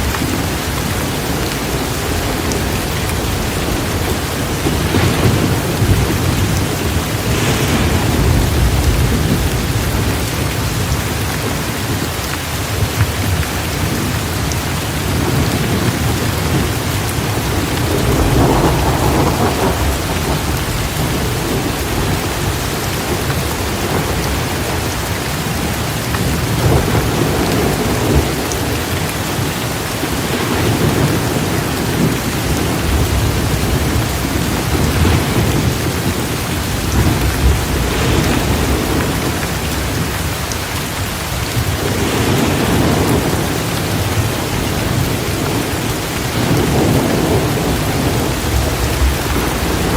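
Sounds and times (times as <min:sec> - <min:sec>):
heavy rain pouring: 0:00.0 - 0:49.9
low rolls of thunder: 0:00.2 - 0:11.6, 0:12.8 - 0:40.4, 0:41.3 - 0:49.9.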